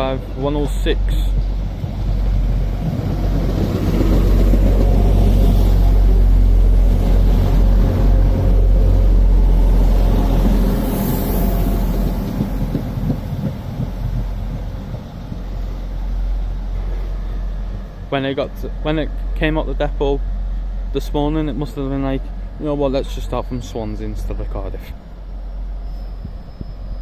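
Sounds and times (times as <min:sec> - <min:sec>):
train diesel engines rumbling: 0:00.0 - 0:27.0.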